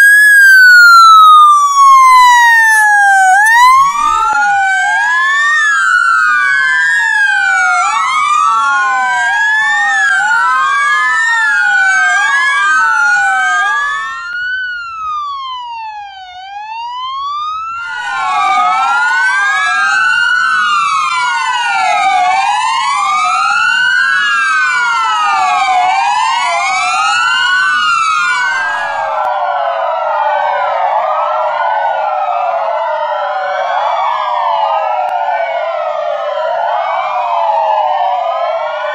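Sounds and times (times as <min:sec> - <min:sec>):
police sirens wailing: 0:00.0 - 0:38.9.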